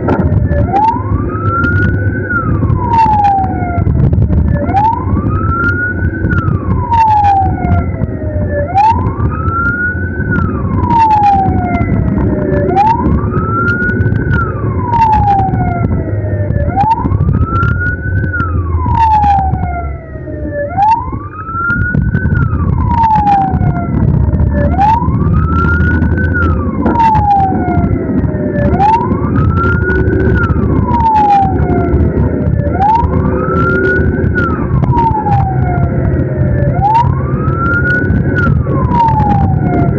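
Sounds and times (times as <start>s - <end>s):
ambulance siren wailing: 0.0s - 39.9s
engine and road rumble: 0.0s - 39.9s.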